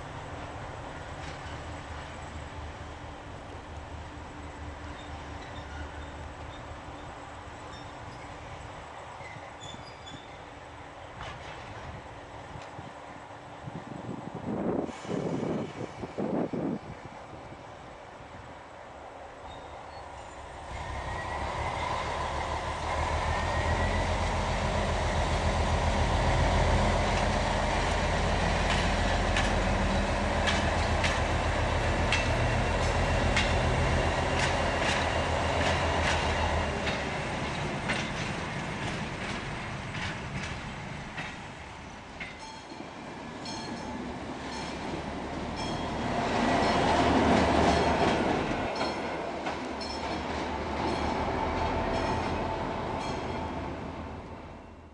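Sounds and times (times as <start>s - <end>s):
locomotive engine drone: 10.3s - 54.9s.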